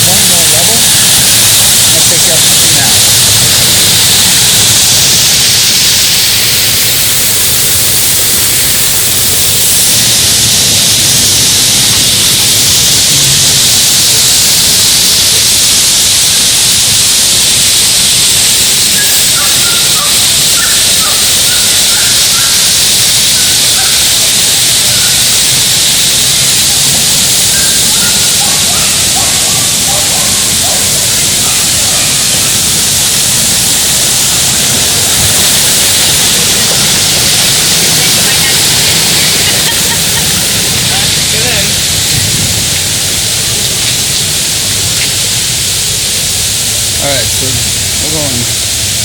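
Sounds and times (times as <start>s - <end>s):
waterfall cascading over rocks: 0.0s - 49.0s.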